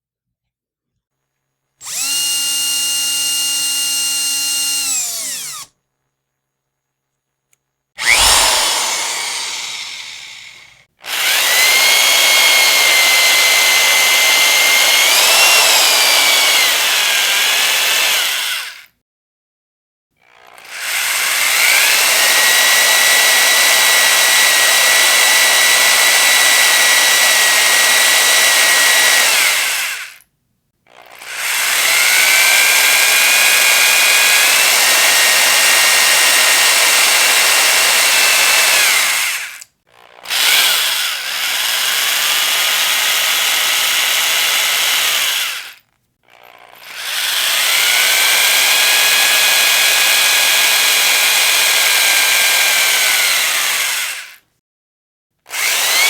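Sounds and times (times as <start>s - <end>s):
electric drill motor whining: 1.8s - 5.7s, 8.0s - 18.9s, 20.6s - 30.2s, 31.0s - 54.4s, 55.5s - 56.0s.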